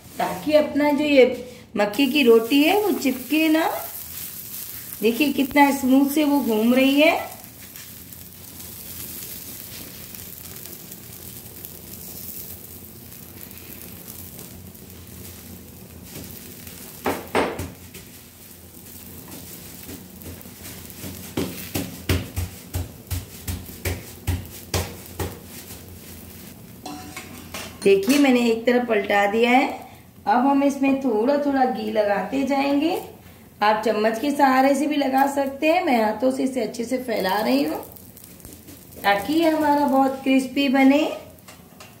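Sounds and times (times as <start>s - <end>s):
flatbread sizzling in ghee: 0.0s - 27.2s, 27.9s - 42.0s.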